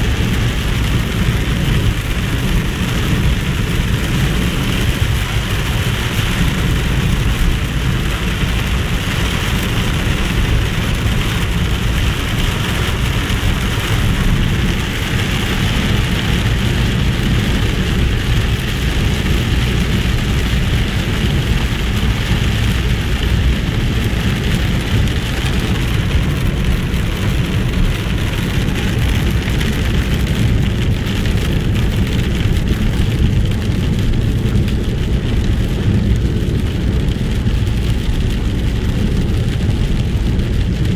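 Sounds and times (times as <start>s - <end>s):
car driving on wet road: 0.0s - 40.9s
heavy rain on car roof: 0.0s - 40.9s.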